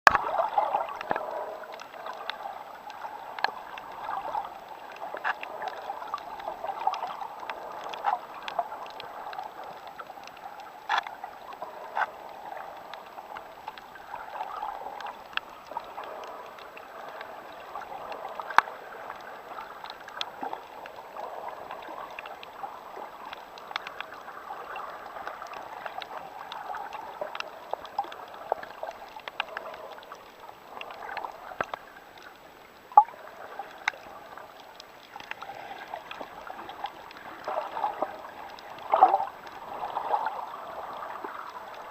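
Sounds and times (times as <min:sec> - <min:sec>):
muffled underwater wash: 0:00.0 - 0:41.9
sharp clicks and crackles: 0:00.1 - 0:41.9.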